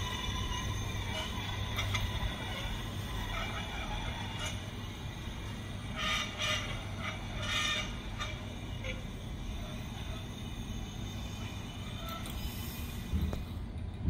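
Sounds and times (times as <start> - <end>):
short high squeals: 0.0 - 13.3
subway train rumbling on track: 0.0 - 14.0.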